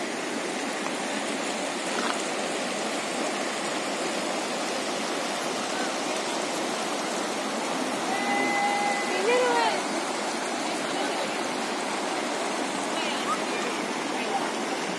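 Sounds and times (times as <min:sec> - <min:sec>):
river rushing over rocks: 0:00.0 - 0:14.9.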